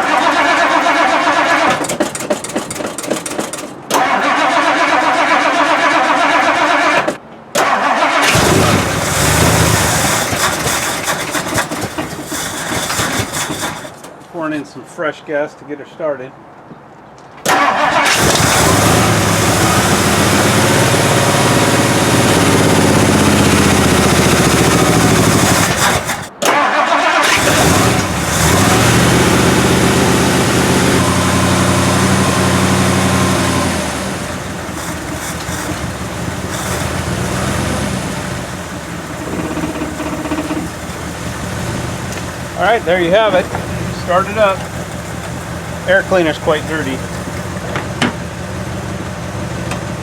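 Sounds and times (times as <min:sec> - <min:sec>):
car engine starting and revving: 0:00.0 - 0:14.1, 0:17.5 - 0:50.0.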